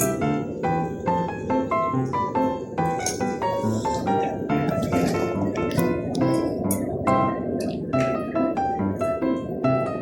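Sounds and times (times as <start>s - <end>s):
bouncy piano tune with bass: 0.0s - 10.0s.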